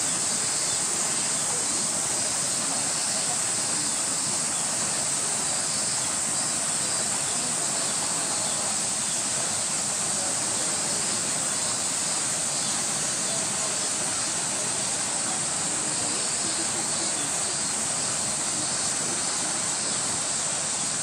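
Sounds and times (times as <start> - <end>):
cicadas droning: 0.0 - 21.0.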